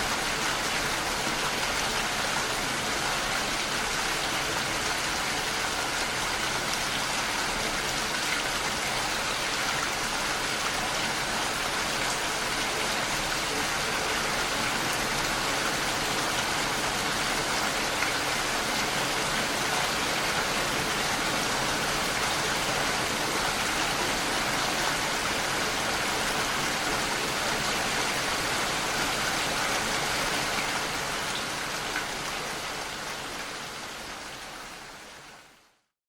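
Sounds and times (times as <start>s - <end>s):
heavy rain on a window: 0.0s - 35.8s.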